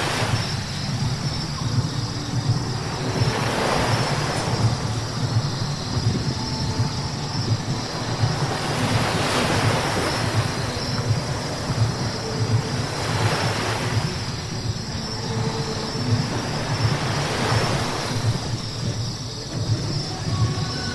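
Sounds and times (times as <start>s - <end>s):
road rumble: 0.0s - 20.9s.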